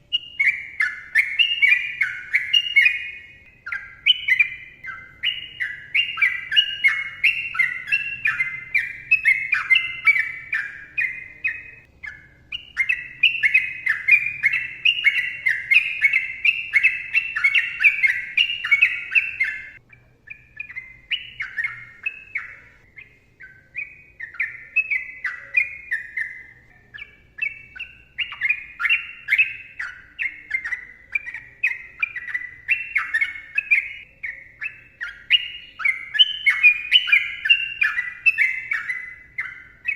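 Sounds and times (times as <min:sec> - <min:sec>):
bird singing falling chirps: 0:00.0 - 0:39.9.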